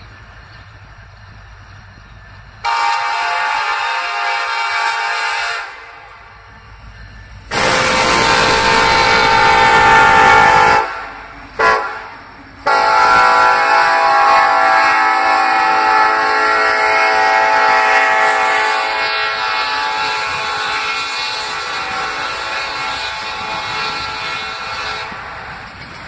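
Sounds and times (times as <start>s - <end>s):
rumble of passing freight cars: 0.0s - 26.0s
locomotive air horn blast: 2.6s - 6.0s, 7.5s - 25.4s.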